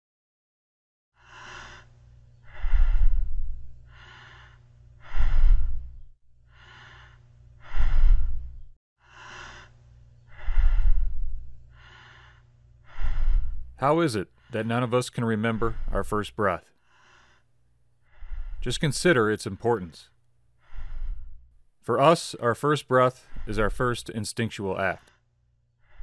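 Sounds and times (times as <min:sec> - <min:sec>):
heavy breathing through apparatus: 0:01.2 - 0:21.6, 0:23.1 - 0:24.0, 0:24.9 - 0:26.0.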